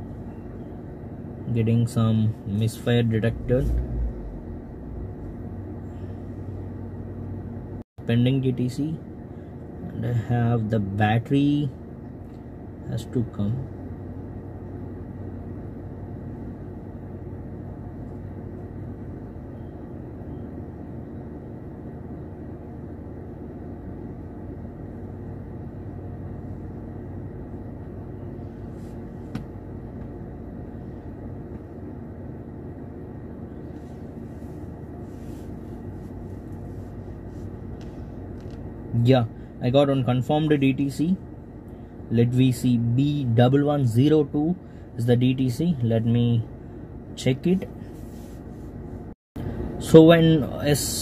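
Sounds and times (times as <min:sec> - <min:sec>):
low hum inside car cabin: 0:00.0 - 0:51.0.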